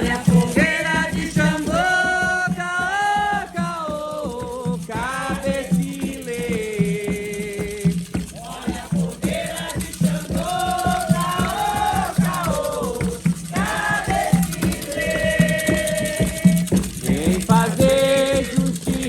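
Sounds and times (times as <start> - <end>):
shaken rattle: 0.0 - 19.0
steady low drum beat: 0.0 - 19.0
voices singing a chant: 0.0 - 19.0.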